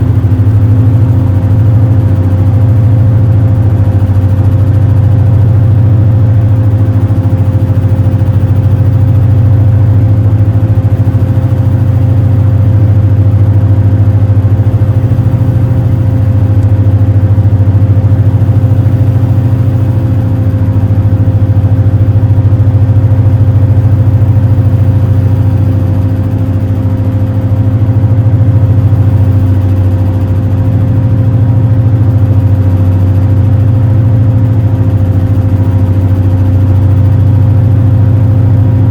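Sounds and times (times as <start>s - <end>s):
boat engines droning: 0.0s - 38.9s
steady hum: 0.0s - 38.9s.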